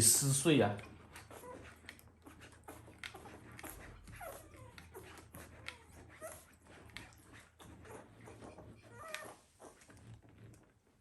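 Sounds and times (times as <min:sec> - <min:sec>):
puppy whimpering squeaks: 0:01.1 - 0:10.5.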